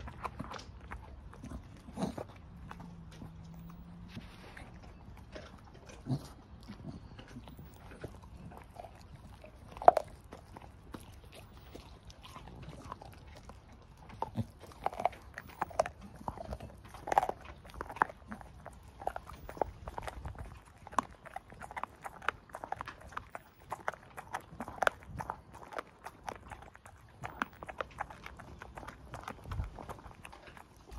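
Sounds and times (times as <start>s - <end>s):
dog chewing bone crunching: 0.0s - 30.9s.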